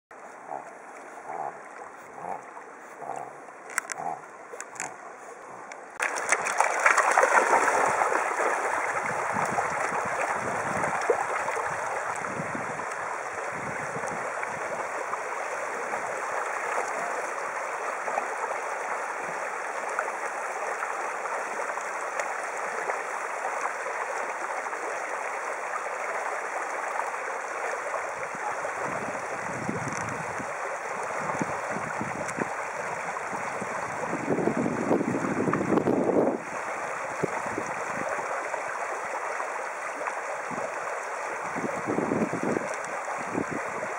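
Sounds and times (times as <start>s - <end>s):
dog swimming and wading: 0.1s - 43.9s
shallow river rushing over stones: 0.2s - 43.9s
soft short water sounds: 0.2s - 43.9s.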